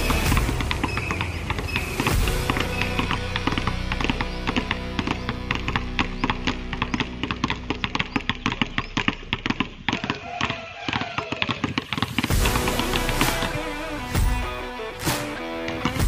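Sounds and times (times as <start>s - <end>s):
background music: 0.0s - 9.8s, 12.1s - 16.0s
basketballs bouncing on concrete: 0.0s - 16.0s.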